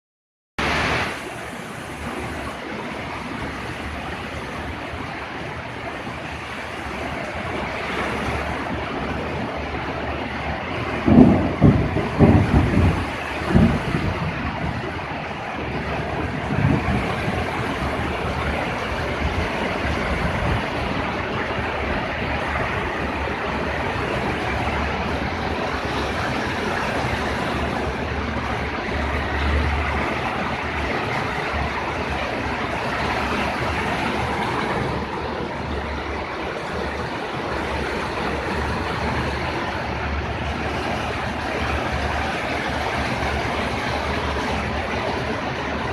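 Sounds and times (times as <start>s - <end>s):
steady rain falling: 0.6s - 45.9s.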